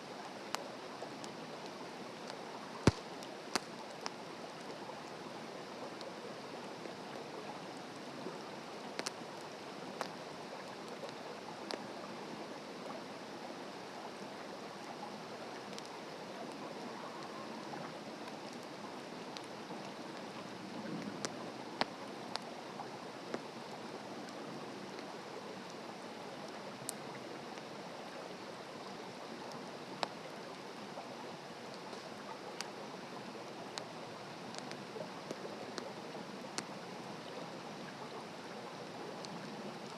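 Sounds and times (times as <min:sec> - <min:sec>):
campfire crackling and popping: 0:00.0 - 0:06.2, 0:06.8 - 0:12.1, 0:14.2 - 0:16.6, 0:17.2 - 0:25.8, 0:26.5 - 0:30.8, 0:31.5 - 0:37.4.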